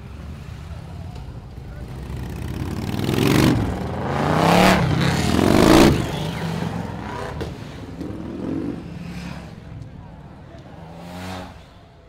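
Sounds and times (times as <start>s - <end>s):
truck engine accelerating: 0.0s - 12.0s.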